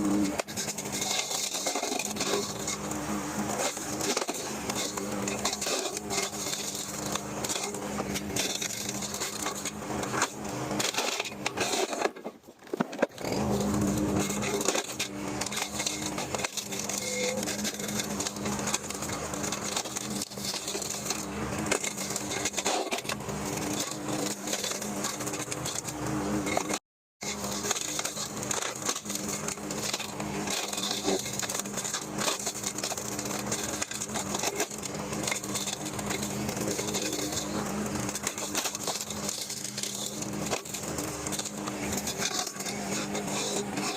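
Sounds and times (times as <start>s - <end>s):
blade chewing up tree limbs: 0.0s - 43.9s
lawnmower engine running: 0.0s - 43.9s.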